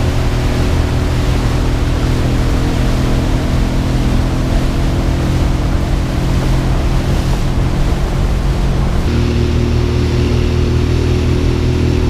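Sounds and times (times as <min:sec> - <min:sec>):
outboard engine running: 0:00.0 - 0:12.0
wind and water rushing: 0:00.0 - 0:12.0.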